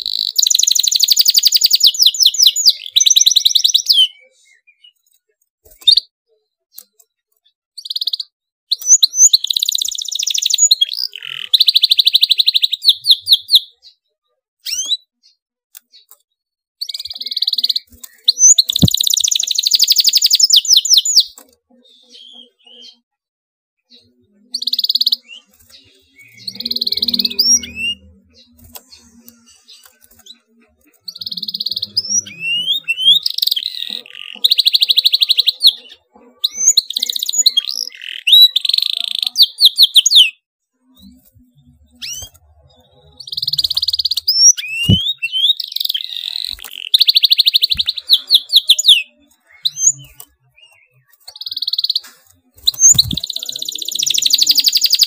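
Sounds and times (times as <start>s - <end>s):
canary singing trills: 0.0s - 6.1s, 6.7s - 16.2s, 16.8s - 23.1s, 23.9s - 55.0s.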